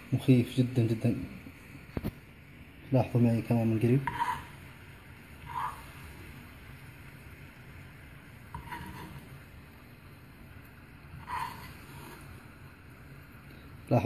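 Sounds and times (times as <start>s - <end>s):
syrup bubbling and hissing: 0.0s - 14.0s.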